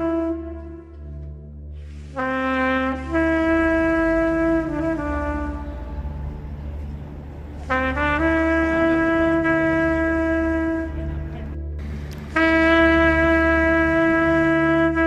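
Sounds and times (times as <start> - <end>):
steady low drone: 0.0 - 15.0
wind instrument long notes: 0.0 - 15.0.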